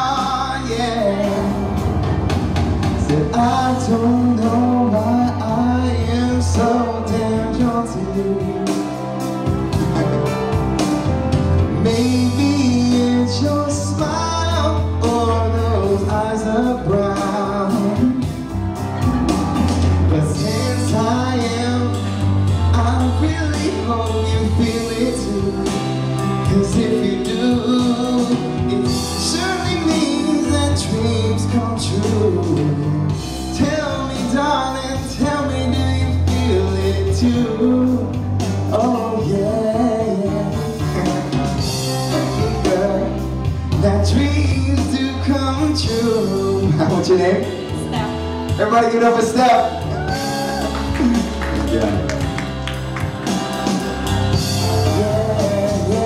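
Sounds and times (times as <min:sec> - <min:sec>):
man singing into microphone: 0:00.0 - 0:01.8, 0:03.0 - 0:08.9, 0:11.6 - 0:18.6, 0:20.0 - 0:47.8, 0:48.5 - 0:52.1, 0:54.4 - 0:56.0
pop backing track with bass: 0:00.0 - 0:56.0.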